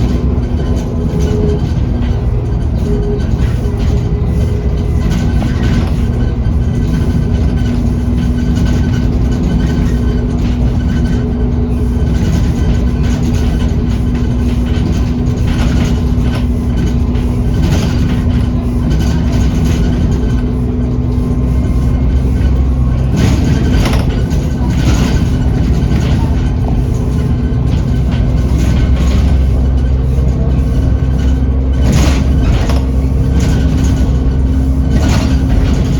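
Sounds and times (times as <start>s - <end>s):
bus engine drone: 0.0s - 35.9s.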